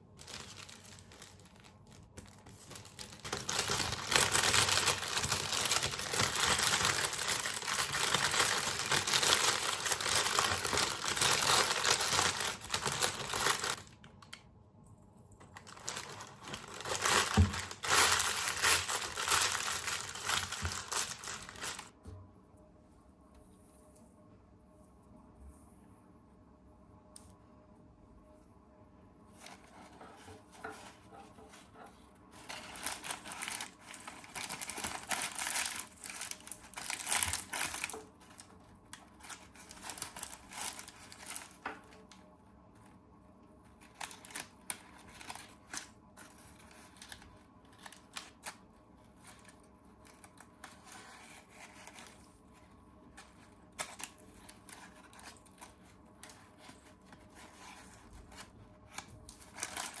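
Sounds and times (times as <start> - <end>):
rustling and crinkling: 0.0 - 14.1, 15.4 - 22.0, 29.3 - 43.0, 43.6 - 60.0.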